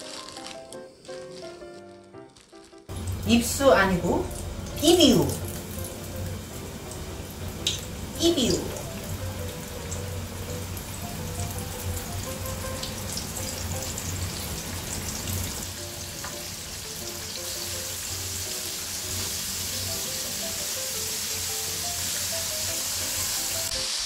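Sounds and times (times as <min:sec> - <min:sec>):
chicken sizzling in hot oil: 0:02.4 - 0:24.0.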